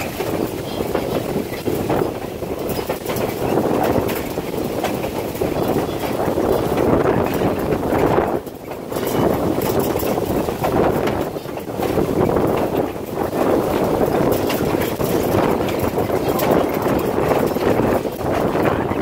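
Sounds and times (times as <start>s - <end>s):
train rumble and rush: 0.0s - 19.0s
wheels clicking on rails: 0.0s - 19.0s.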